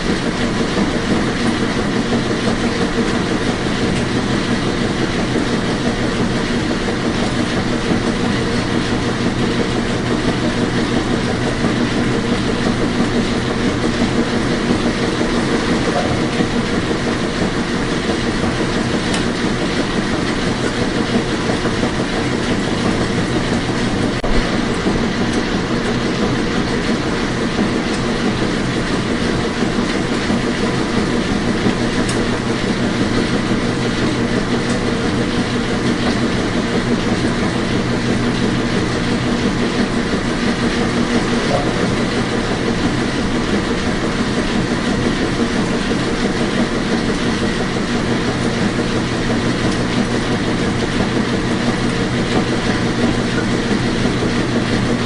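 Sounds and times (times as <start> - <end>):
washing machine whirring: 0.0 - 55.0.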